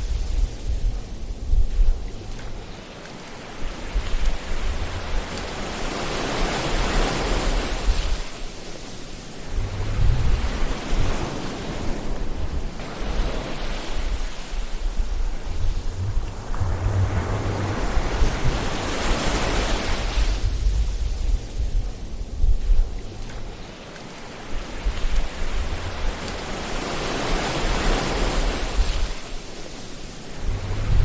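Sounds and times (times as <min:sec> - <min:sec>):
ocean waves surging: 0:02.2 - 0:20.8, 0:23.0 - 0:31.0.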